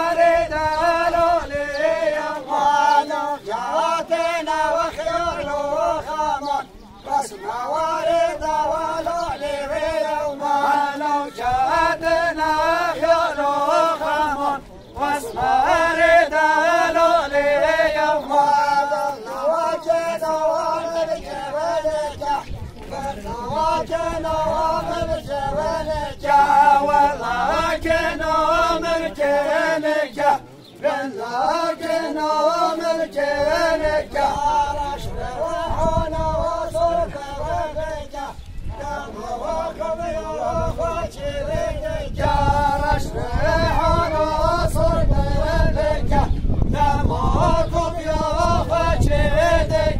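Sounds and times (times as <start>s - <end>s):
men singing unaccompanied: 0.0s - 49.9s.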